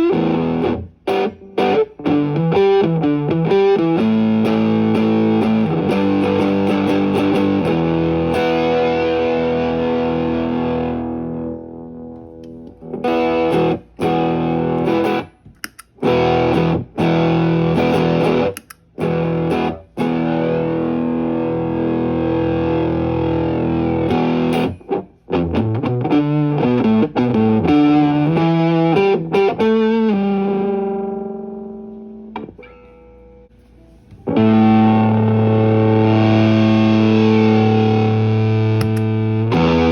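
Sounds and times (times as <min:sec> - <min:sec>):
electric guitar chords and notes: 0:00.0 - 0:39.9.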